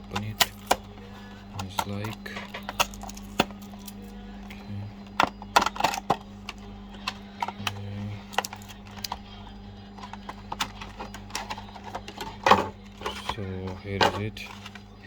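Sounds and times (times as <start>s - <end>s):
packaging being opened: 0.0s - 9.2s, 9.9s - 15.0s
steady low hum: 0.0s - 15.0s.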